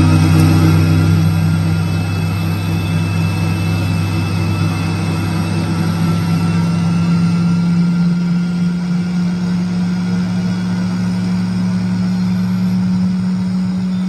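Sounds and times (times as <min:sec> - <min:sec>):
lathe humming: 0:00.0 - 0:14.0.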